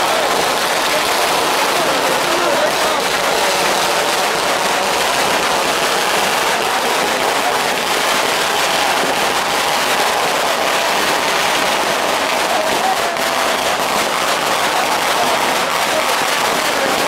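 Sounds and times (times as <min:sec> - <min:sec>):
firecrackers crackling rapidly: 0:00.0 - 0:17.0.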